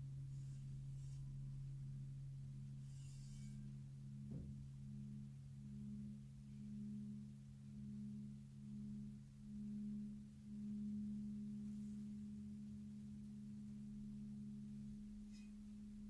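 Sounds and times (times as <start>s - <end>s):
crystal singing bowls humming: 0.0s - 16.0s.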